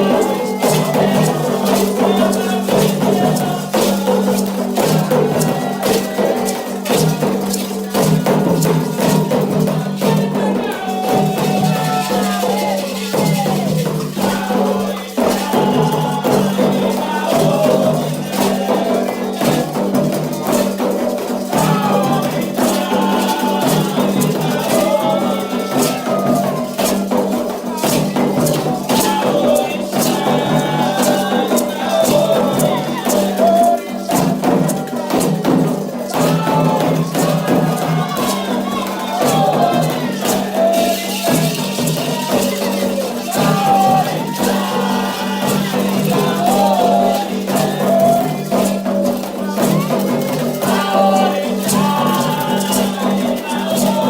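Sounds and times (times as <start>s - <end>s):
shaken rattles: 0.0s - 54.0s
struck percussion: 0.0s - 54.0s
voices singing: 0.0s - 54.0s.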